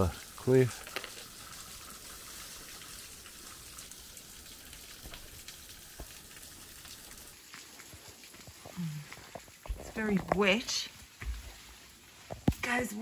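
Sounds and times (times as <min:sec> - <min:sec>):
water trickling off rock: 0:00.0 - 0:13.0.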